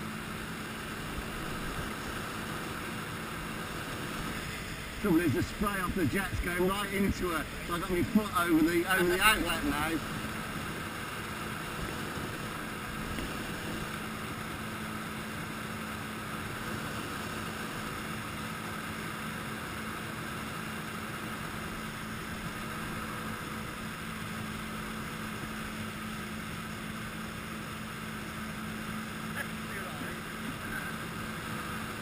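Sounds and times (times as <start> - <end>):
jet ski engine drone: 0.0 - 32.0
rushing wake water: 0.0 - 32.0.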